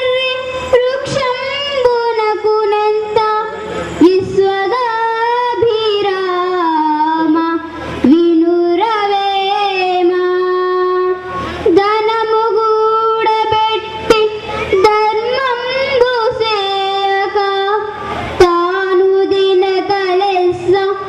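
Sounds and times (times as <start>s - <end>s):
girl singing into a microphone: 0.0s - 21.0s.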